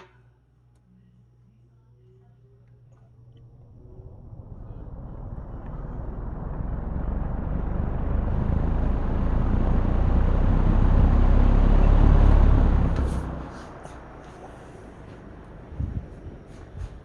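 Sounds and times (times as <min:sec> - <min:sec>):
box fan spinning up: 0:02.8 - 0:17.0.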